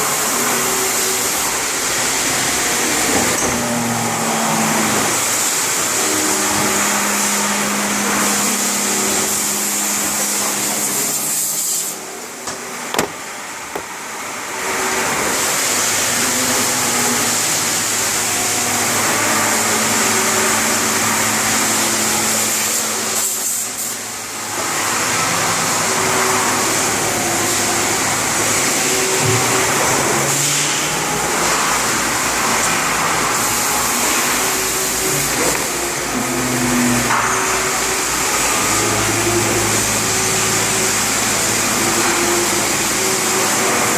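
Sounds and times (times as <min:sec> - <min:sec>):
machine hiss with motor tones: 0:00.0 - 0:43.9.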